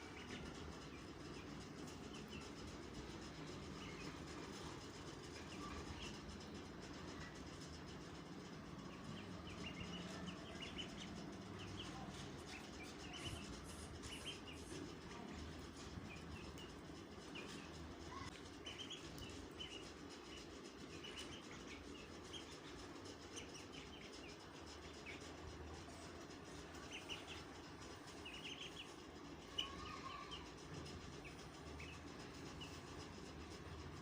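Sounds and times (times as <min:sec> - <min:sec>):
baby birds peeping: 0:00.0 - 0:34.0
steady background noise: 0:00.0 - 0:34.0.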